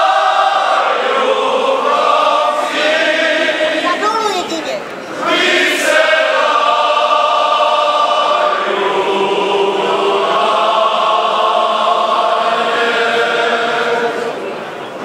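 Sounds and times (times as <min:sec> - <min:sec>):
men's choir singing long notes: 0:00.0 - 0:04.1, 0:05.0 - 0:15.0.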